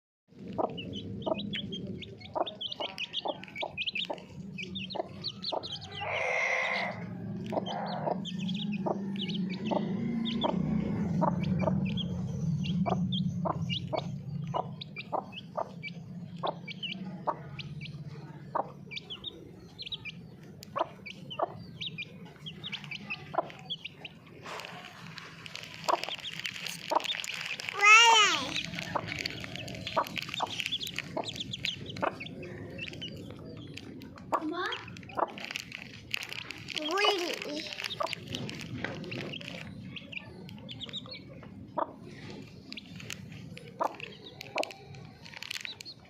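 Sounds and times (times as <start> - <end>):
hen clucking: 0.4 - 12.0, 12.6 - 35.6, 36.7 - 44.8
beaks pecking at feed: 0.4 - 46.0
chicks peeping: 0.4 - 46.0.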